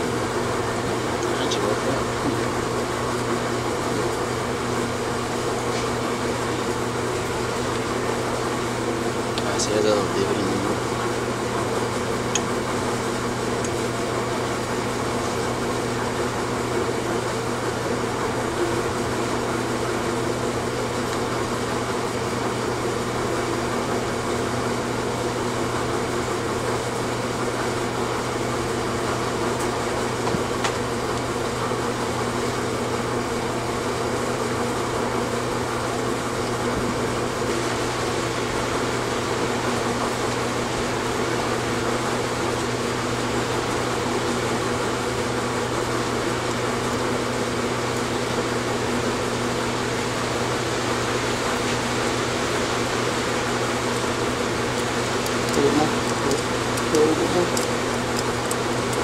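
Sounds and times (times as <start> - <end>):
fan humming and rushing: 0.0 - 59.0.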